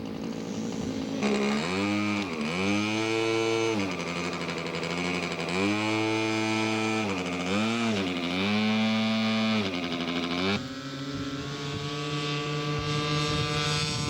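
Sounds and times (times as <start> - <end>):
model airplane engine: 0.0 - 14.0.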